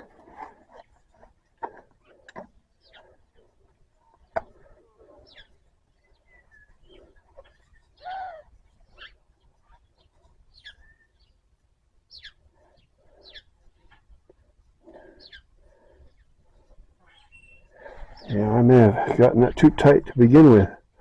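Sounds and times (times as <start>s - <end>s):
birds chirping: 0.0s - 20.7s.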